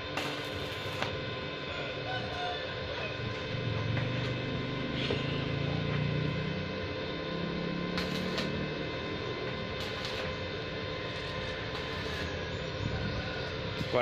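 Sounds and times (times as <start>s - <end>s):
electrical hum: 0.0s - 14.0s
low drone: 0.0s - 14.0s.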